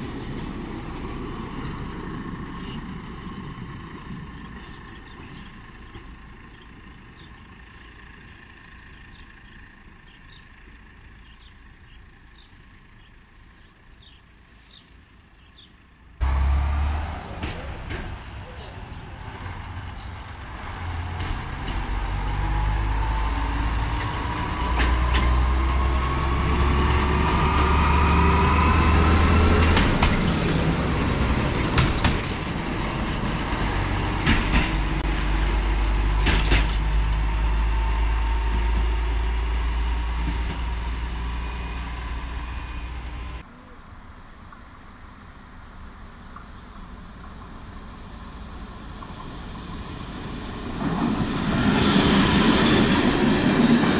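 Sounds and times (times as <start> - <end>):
diesel engine with rising whine: 0.0 - 53.9
distant diesel locomotive approaching: 0.0 - 53.9.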